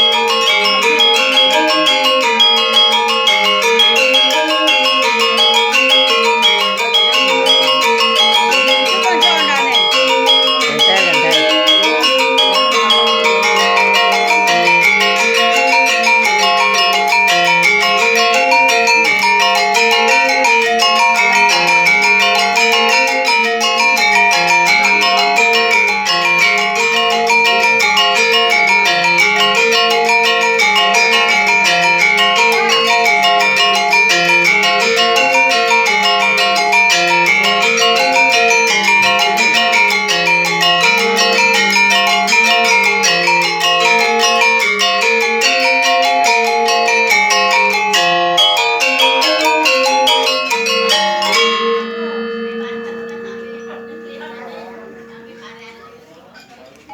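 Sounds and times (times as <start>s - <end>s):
tuned mallet percussion music: 0.0s - 56.9s.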